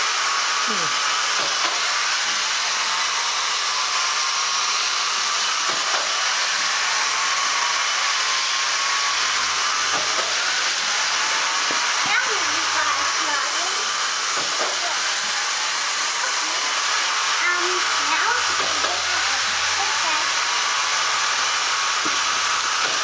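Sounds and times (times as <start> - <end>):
toy roller coaster whirring: 0.0 - 23.0.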